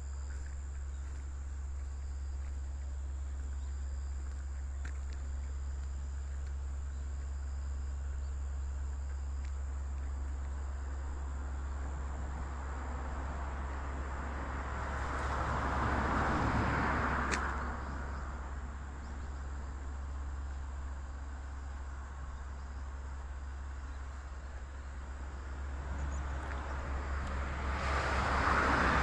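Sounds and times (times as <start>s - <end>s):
constant low hum: 0.0s - 29.0s
insects trilling: 0.0s - 29.0s
road vehicle passing: 0.0s - 29.0s.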